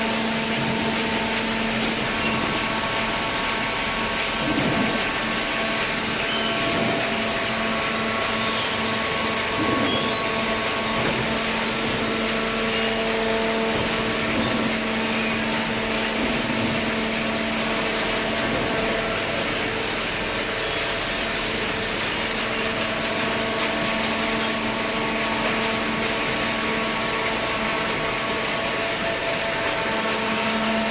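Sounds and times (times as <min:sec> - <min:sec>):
paper baler mechanical hum: 0:00.0 - 0:30.9.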